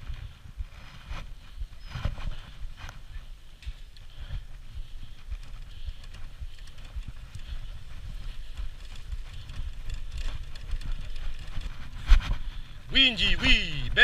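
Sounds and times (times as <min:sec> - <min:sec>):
kart wheels rattling on dirt trail: 0:00.0 - 0:14.0.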